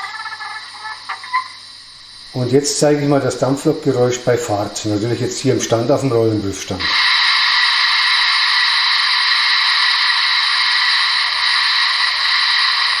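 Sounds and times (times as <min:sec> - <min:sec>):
steam hiss from loudspeaker: 0:00.0 - 0:13.0.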